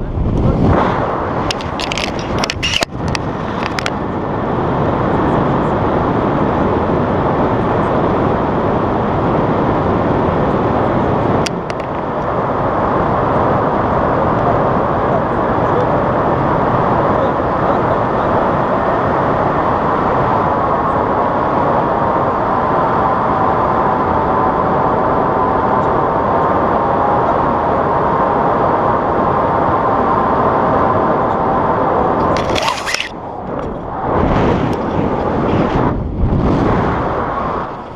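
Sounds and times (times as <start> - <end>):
wind roaring on microphone: 0.0 - 37.9.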